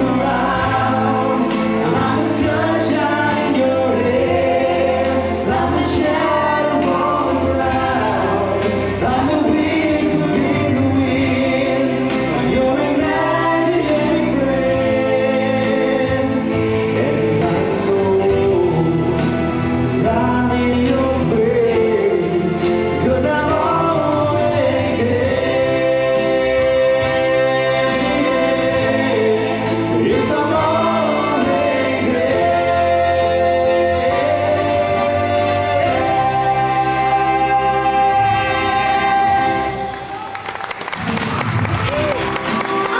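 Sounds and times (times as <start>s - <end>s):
steady musical accompaniment: 0.0s - 42.9s.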